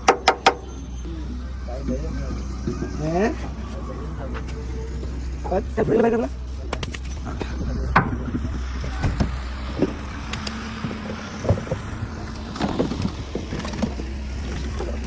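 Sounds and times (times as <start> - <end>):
knocks and clunks: 0.0 - 0.8, 2.6 - 15.0
motor humming: 0.0 - 15.0.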